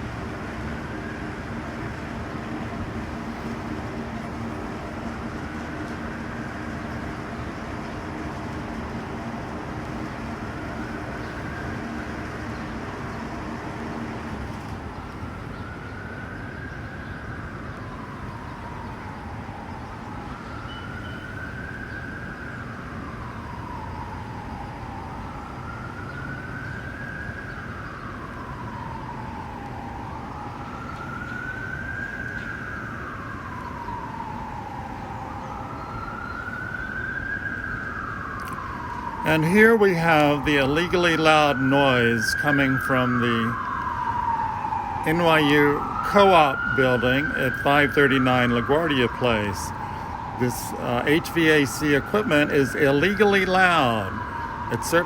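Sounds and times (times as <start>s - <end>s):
emergency siren wailing: 0.0s - 55.0s.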